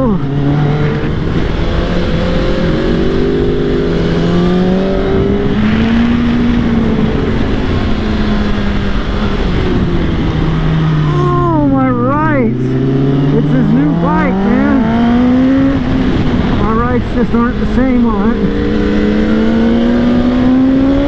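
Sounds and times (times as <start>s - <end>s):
motorcycle engine at speed: 0.0s - 21.0s
wind rush on microphone: 0.0s - 21.0s.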